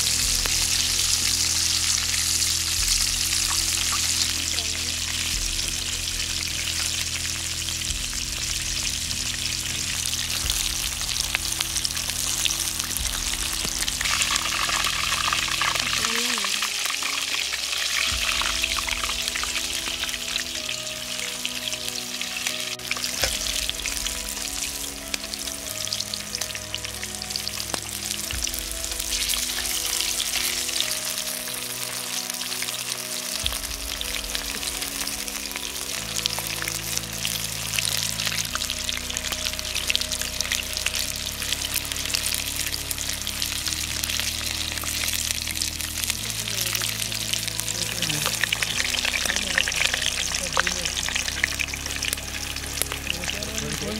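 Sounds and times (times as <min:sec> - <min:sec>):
chicken deep-frying in oil: 0:00.0 - 0:53.9
soft background music chords: 0:00.0 - 0:53.9.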